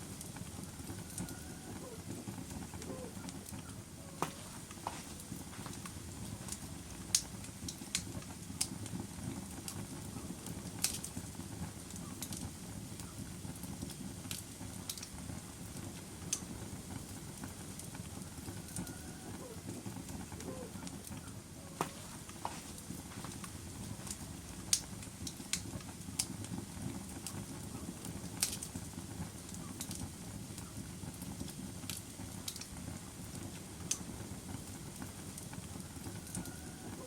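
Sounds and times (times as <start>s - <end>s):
fire flames rumbling: 0.0s - 37.0s
wood crackling and popping: 0.0s - 37.0s.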